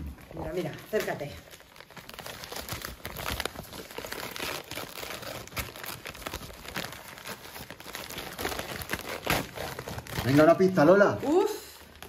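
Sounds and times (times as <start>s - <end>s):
gift wrap crinkling and tearing: 0.2s - 12.0s.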